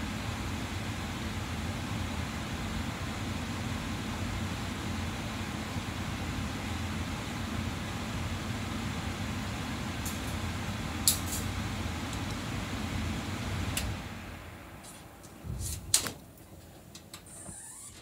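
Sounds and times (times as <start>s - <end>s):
blower fan rushing: 0.0s - 18.0s.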